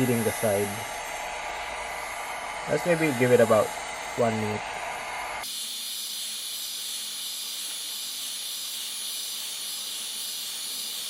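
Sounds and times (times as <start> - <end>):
heat gun blowing hot air: 0.0 - 11.0.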